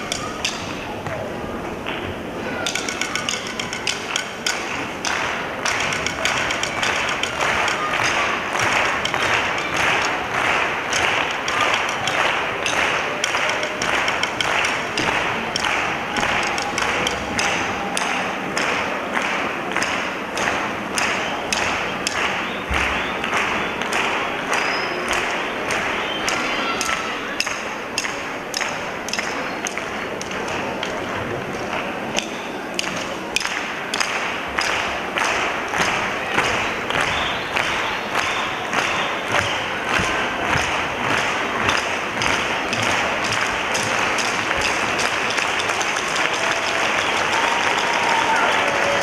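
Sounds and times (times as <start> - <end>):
audience clapping in unison: 0.0 - 49.0
crowd murmur: 0.0 - 49.0
metallic percussion strikes: 0.0 - 49.0.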